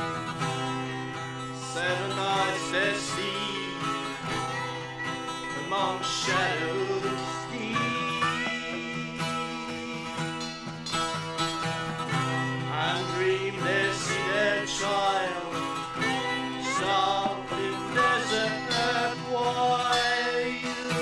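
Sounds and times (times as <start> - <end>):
plucked acoustic guitar: 0.0 - 21.0.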